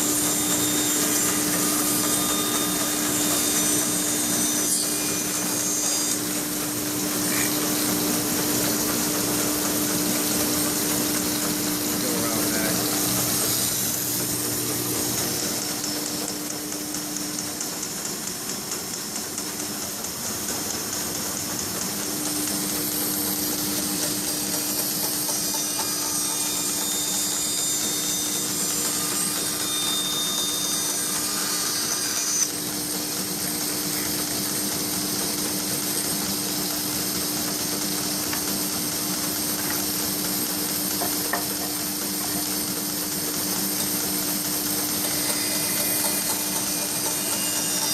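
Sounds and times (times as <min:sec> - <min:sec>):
bandsaw running: 0:00.0 - 0:47.9.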